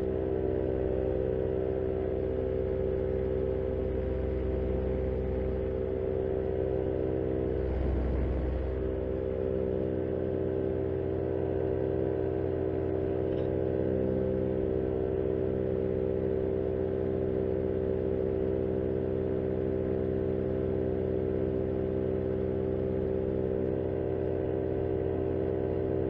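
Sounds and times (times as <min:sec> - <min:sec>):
paramotor engine droning: 0:00.0 - 0:26.0.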